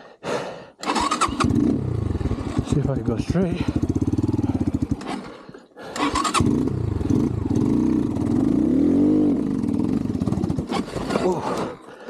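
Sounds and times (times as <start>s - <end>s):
dirt bike engine revving: 0.8s - 11.6s.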